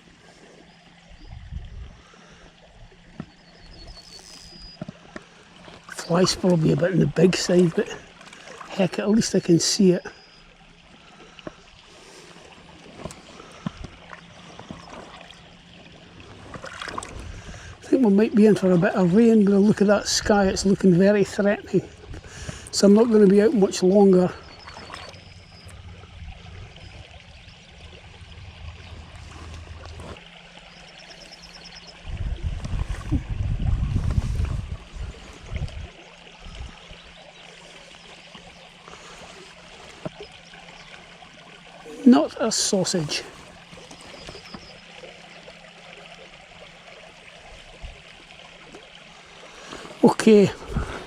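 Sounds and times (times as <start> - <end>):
low rumbling buffeting: 0.0 - 48.1, 49.1 - 51.0
small stream flowing: 0.0 - 51.0.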